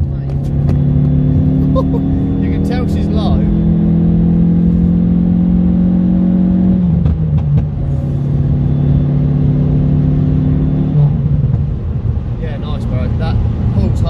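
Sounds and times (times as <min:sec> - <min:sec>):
car engine and exhaust: 0:00.0 - 0:14.0.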